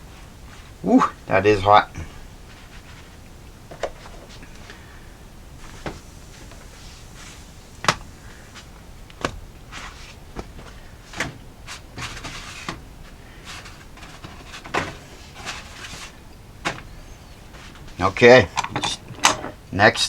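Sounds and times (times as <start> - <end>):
rustling: 0.0 - 19.8.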